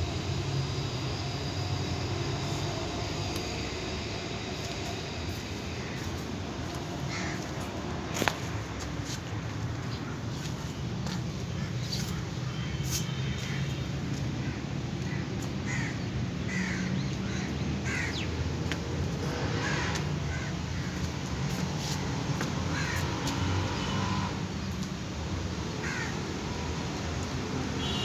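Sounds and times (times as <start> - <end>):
steady low hum: 0.0 - 23.2.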